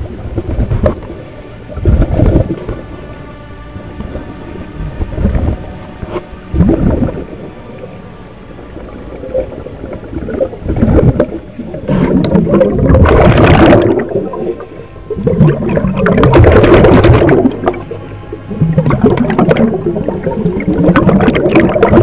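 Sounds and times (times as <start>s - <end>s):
underwater air bubbling: 0.0s - 22.0s.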